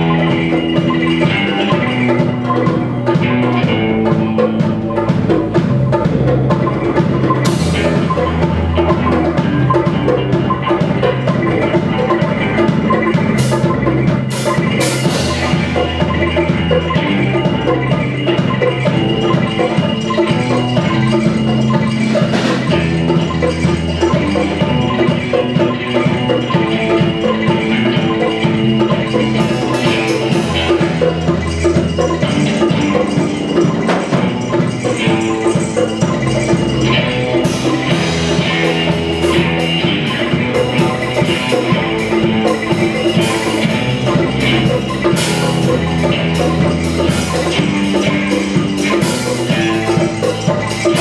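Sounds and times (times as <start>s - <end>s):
live instrumental band: 0.0s - 51.0s.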